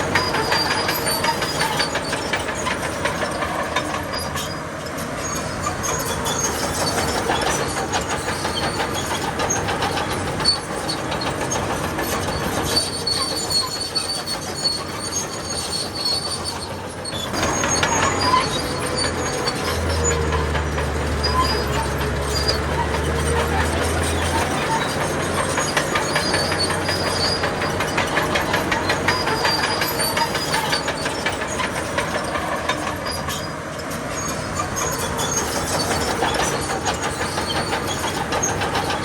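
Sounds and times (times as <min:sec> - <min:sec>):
diesel engine running: 0:00.0 - 0:39.0
steel tracks clanking and squealing: 0:00.0 - 0:39.0.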